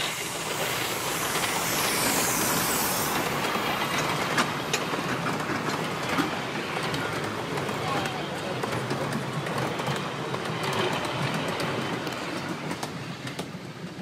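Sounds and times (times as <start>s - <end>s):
steam locomotive hissing: 0.0s - 13.9s
wheels clicking on rails: 0.0s - 14.0s.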